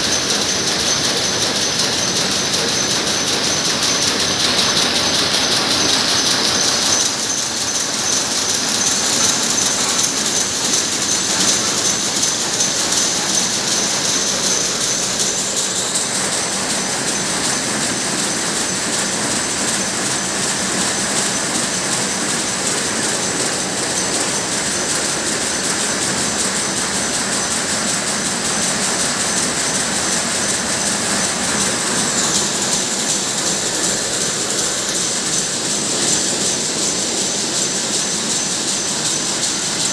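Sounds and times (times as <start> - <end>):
loom weaving clatter: 0.0 - 39.9.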